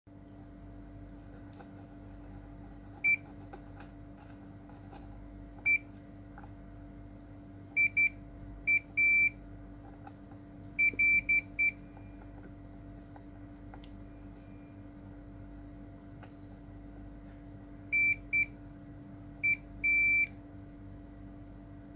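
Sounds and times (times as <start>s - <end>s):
low electrical hum: 0.1s - 21.9s.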